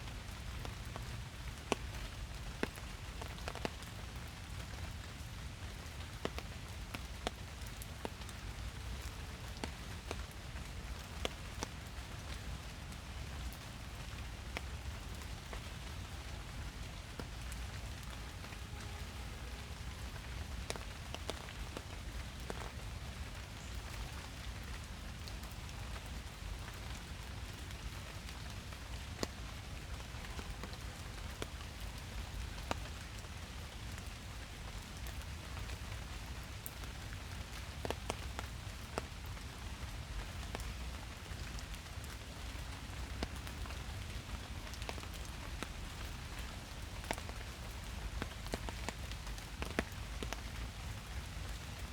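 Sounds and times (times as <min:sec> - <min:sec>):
raindrops dripping and tapping: 0:00.0 - 0:51.9
steady rain hiss: 0:00.0 - 0:51.9.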